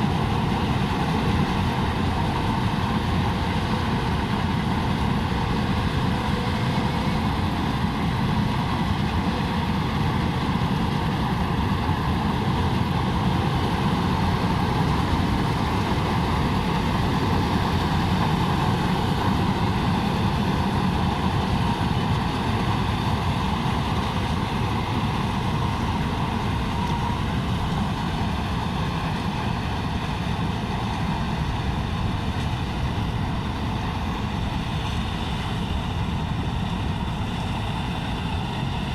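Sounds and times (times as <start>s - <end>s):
combine harvester engine drone: 0.0s - 38.9s
harvesting machinery noise: 0.0s - 38.9s.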